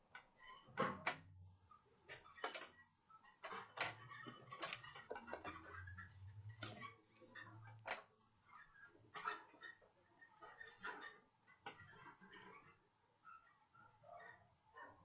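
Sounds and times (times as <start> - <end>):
faint clicks and knocks: 0.1 - 12.5.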